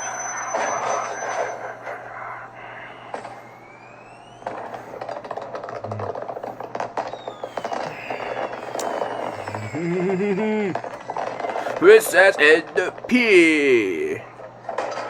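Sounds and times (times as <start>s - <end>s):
firework rising whistle: 0.0s - 14.1s
fireworks crackling bursts: 0.0s - 15.0s.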